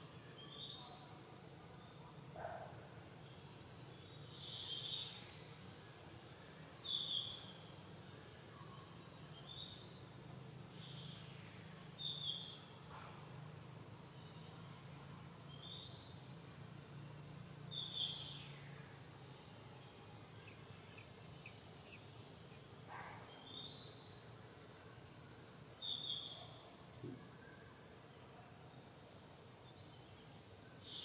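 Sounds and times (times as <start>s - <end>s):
insects hissing: 1.4s - 31.0s.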